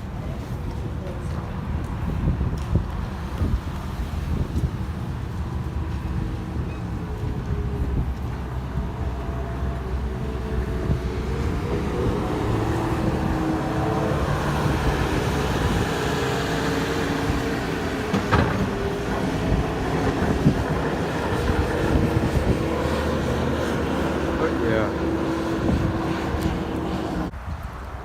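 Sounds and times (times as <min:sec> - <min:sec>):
vehicle rumble in motion: 0:00.0 - 0:28.0.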